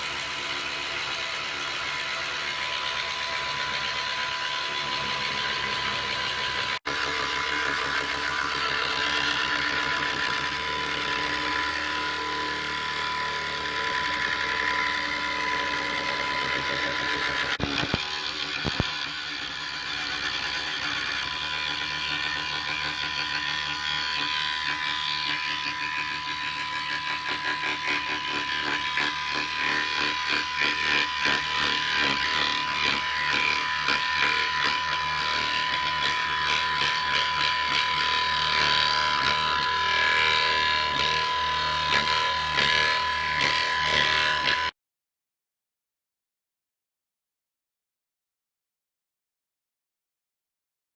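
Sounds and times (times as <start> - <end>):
chattering cutting noise: 0.0 - 44.7
router spindle whine: 0.0 - 44.7.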